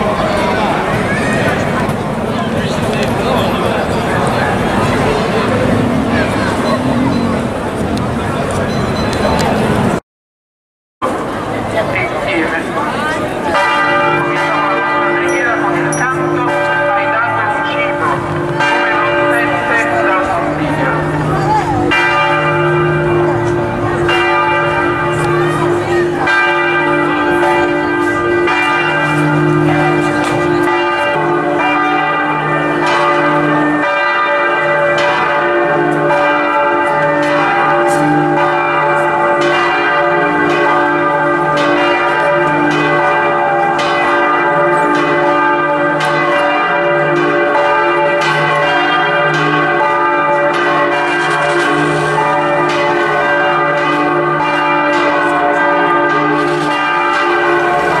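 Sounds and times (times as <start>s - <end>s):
church bells pealing: 0.0s - 10.0s, 11.0s - 58.0s
hum of large bells: 0.0s - 10.0s, 11.0s - 58.0s.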